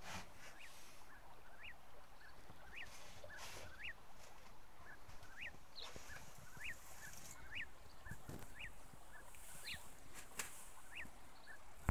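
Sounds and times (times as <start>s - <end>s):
bird calling: 0.4s - 11.9s.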